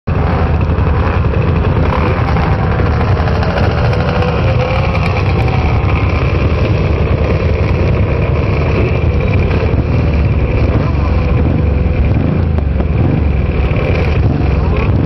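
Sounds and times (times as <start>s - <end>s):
motorcycle engine revving: 0.1s - 15.0s
motorcycles idling: 0.1s - 15.0s.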